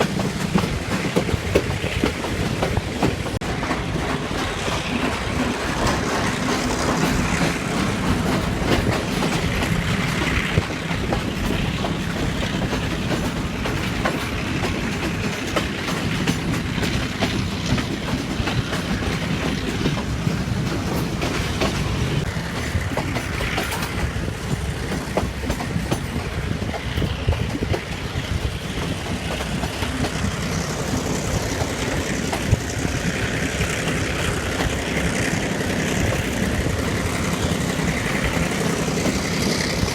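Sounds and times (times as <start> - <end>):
diesel locomotive running: 0.0 - 39.9
train wheels clacking over rail joints: 0.0 - 39.9.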